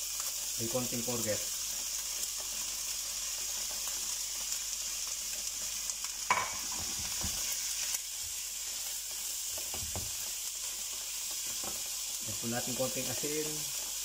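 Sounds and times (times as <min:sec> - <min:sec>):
food sizzling in a frying pan: 0:00.0 - 0:14.0
spatula stirring vegetables: 0:00.0 - 0:14.0.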